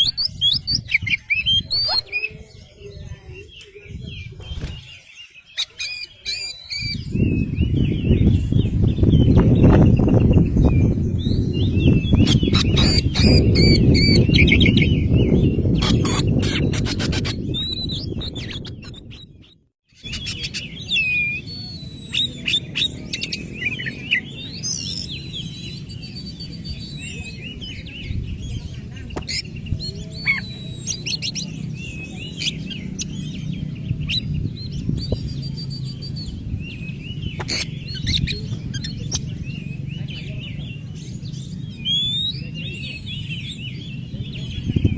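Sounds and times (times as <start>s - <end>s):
bird singing: 0.0s - 44.9s.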